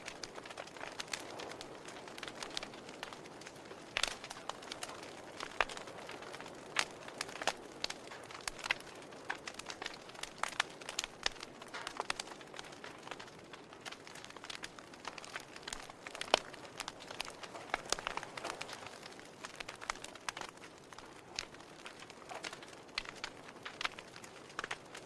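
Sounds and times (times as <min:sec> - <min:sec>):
soft steady hiss: 0:00.0 - 0:25.0
wood fire crackling and snapping: 0:00.0 - 0:25.0.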